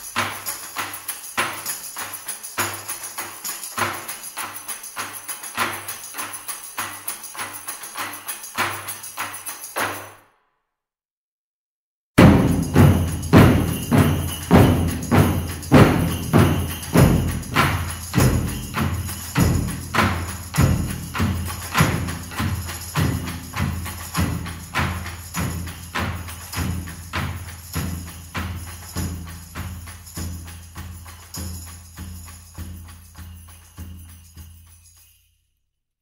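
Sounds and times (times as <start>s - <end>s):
pitched percussion hits: 0.0s - 10.2s, 12.2s - 35.2s.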